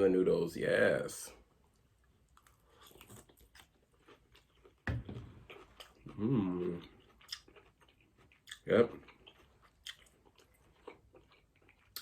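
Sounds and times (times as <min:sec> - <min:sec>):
chewing and wet mouth noises: 0:01.6 - 0:12.0.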